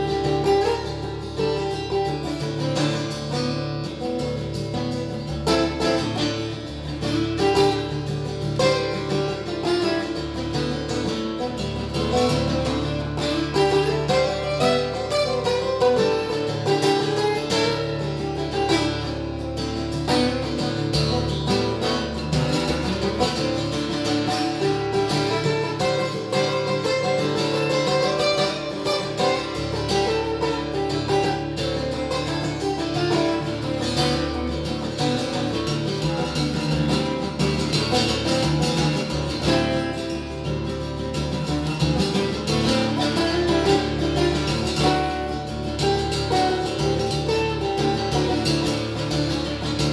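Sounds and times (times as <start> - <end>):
acoustic guitar plucked notes: 0.0 - 49.9.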